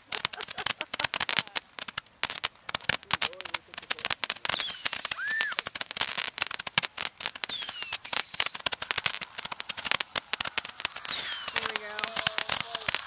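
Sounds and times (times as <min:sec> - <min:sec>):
firework rockets whistling: 0:00.0 - 0:13.0
fireworks crackling and popping: 0:00.0 - 0:13.0.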